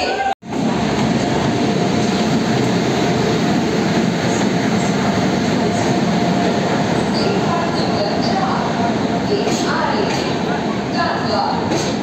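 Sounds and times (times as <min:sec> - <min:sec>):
train rumbling past: 0:00.4 - 0:12.0.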